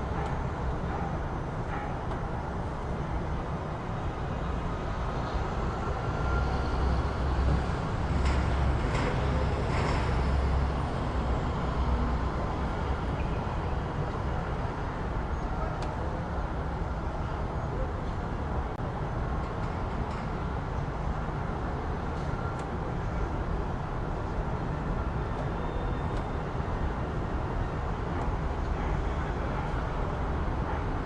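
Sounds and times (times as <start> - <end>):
heavy vehicle engine rumble: 0.0 - 31.0
passing traffic: 0.0 - 31.0.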